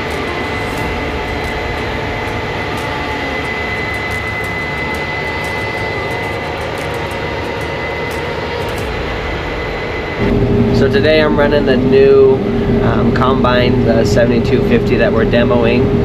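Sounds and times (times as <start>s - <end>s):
combine harvester running: 0.0s - 16.0s
high machine whine: 0.0s - 16.0s.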